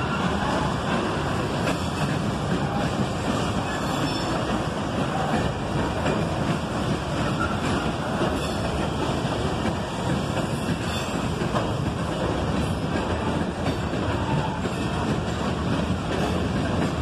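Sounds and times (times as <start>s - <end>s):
train wheels running on rails: 0.0s - 17.0s.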